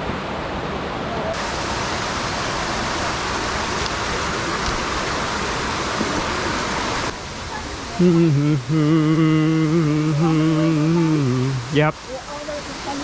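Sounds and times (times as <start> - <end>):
creek water pouring over rocks: 0.0 - 13.0.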